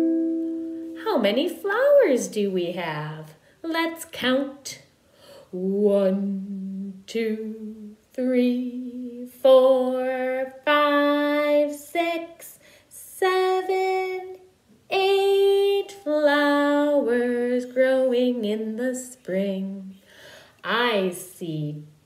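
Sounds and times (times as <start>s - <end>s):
woman singing long held notes: 0.0s - 2.4s, 5.3s - 22.0s.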